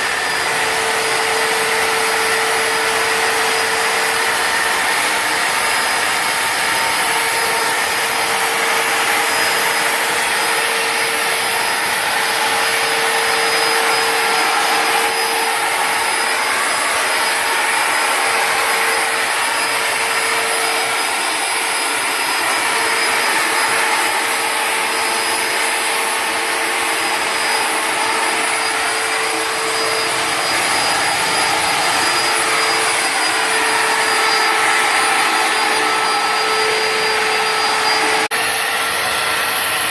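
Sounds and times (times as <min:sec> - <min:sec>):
jet engine turbine whine: 0:00.0 - 0:39.9.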